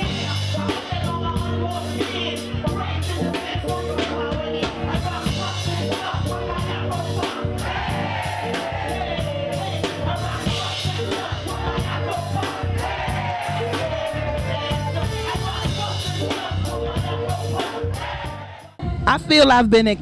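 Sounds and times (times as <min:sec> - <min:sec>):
hip-hop beat with heavy bass: 0:00.0 - 0:20.0.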